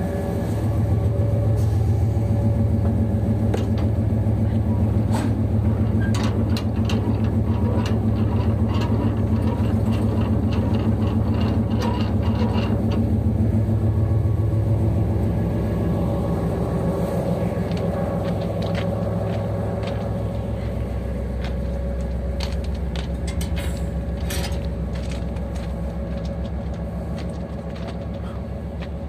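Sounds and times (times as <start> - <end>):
diesel locomotive engine drone: 0.0 - 29.0.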